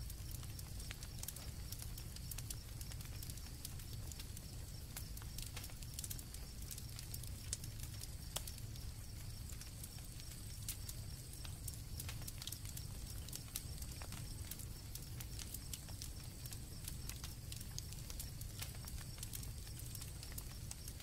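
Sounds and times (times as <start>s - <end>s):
campfire crackling: 0.0s - 21.0s
crickets chirping: 0.0s - 21.0s
low rumble of flames: 0.0s - 21.0s.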